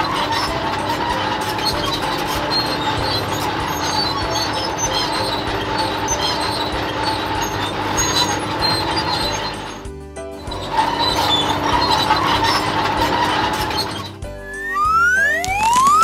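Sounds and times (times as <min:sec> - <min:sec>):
clanking and rattling tracks: 0:00.0 - 0:14.4
excavator engine rumble: 0:00.0 - 0:16.0.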